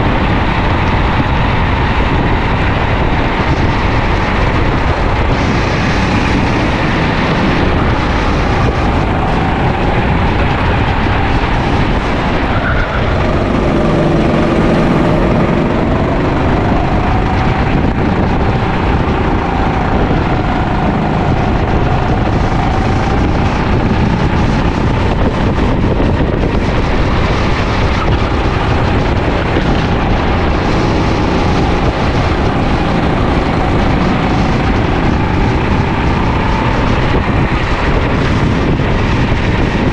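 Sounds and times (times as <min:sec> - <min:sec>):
kart engine revving: 0:00.0 - 0:39.9
rush of noise: 0:00.0 - 0:39.9.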